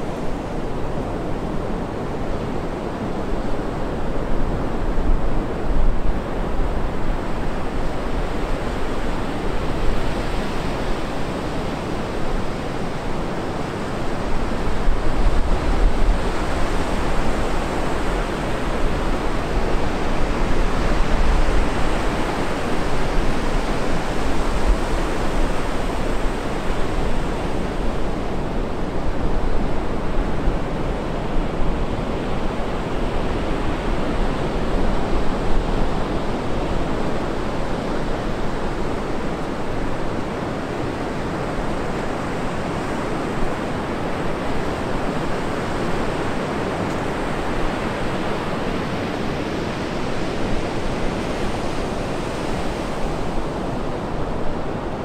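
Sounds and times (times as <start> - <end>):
surf breaking on a beach: 0.0 - 55.0.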